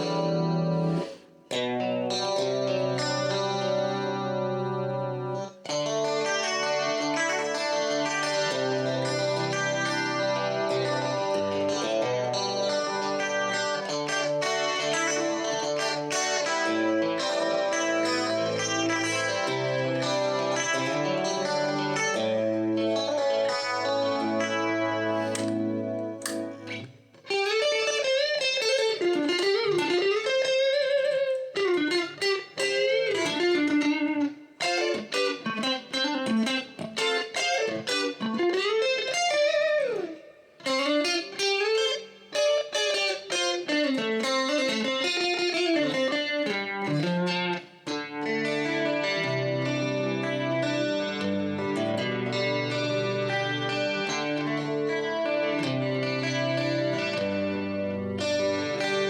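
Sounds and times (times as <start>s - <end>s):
clean electric guitar: 0.0s - 59.0s.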